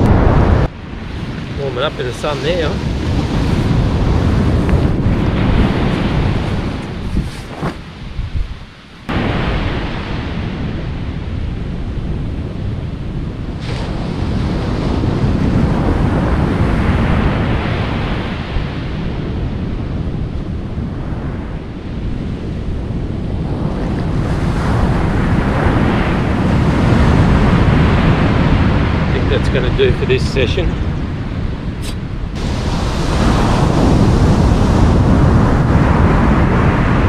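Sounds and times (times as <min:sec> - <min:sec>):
surf breaking on sandy beach: 0:00.0 - 0:37.0
wind buffeting microphone: 0:00.0 - 0:37.0.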